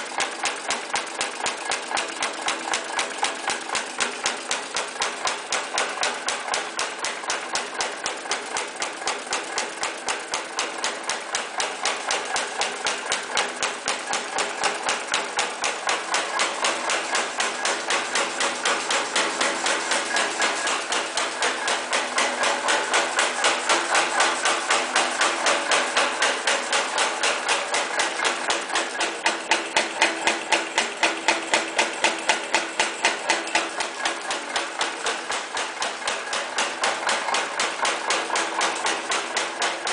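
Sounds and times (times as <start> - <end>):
machine running: 0.0 - 39.9
punch press clatter: 0.0 - 39.9.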